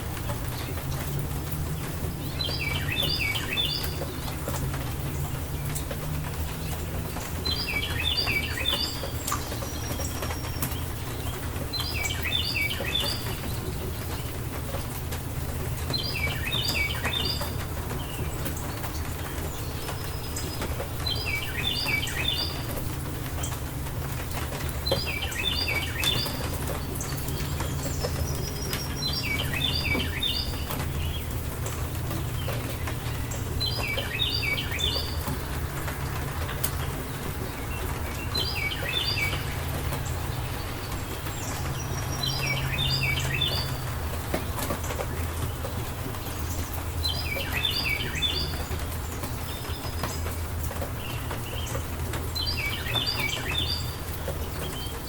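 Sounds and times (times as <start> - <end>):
songbird singing: 0.0 - 55.0
steady rain: 0.0 - 55.0.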